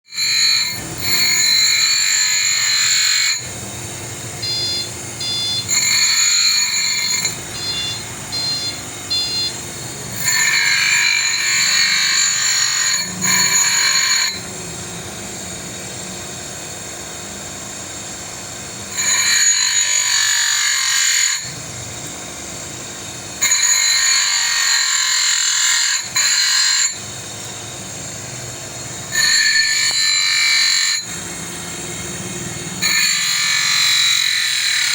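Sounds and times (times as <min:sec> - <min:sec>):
power tool grinding metal: 0:00.0 - 0:34.9.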